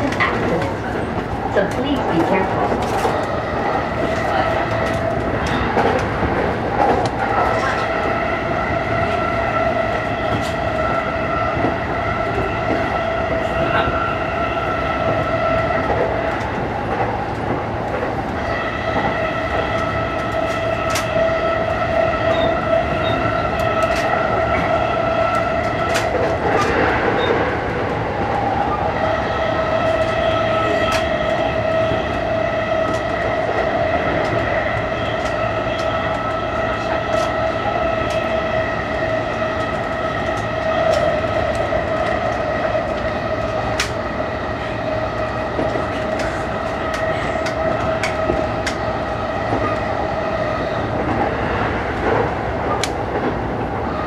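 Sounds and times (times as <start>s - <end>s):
electric train whine: 0.0s - 54.0s.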